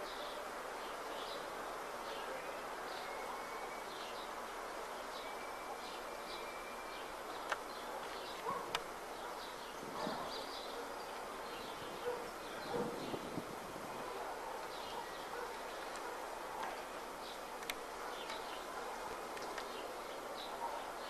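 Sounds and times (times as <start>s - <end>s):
small birds chirping: 0.0s - 21.0s
steady outdoor hiss: 0.0s - 21.0s.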